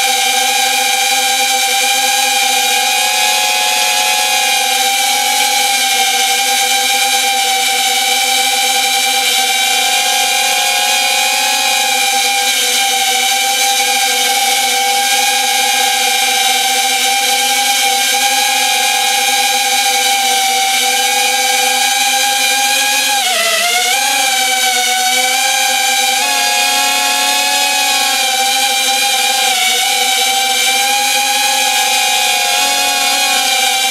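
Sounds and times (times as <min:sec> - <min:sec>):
quadcopter motors whining: 0:00.0 - 0:33.9.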